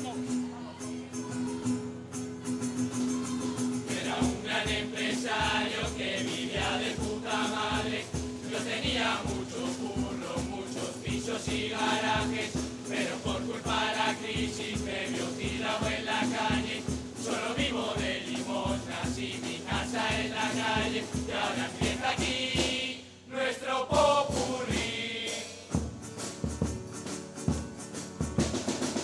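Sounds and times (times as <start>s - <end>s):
chorus singing: 1.0s - 1.8s, 2.4s - 25.9s
steady drum beat: 3.9s - 23.0s, 23.8s - 29.0s.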